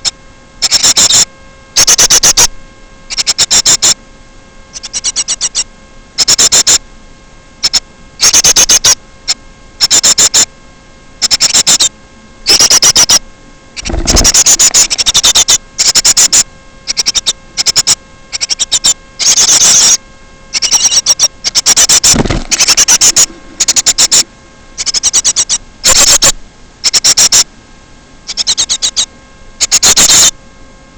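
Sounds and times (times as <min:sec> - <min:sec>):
small bird chattering: 0:00.0 - 0:02.5, 0:03.1 - 0:04.0, 0:04.7 - 0:06.8, 0:07.6 - 0:10.5, 0:11.2 - 0:13.2, 0:13.8 - 0:27.5, 0:28.3 - 0:30.3
faint electrical hum: 0:00.0 - 0:30.9.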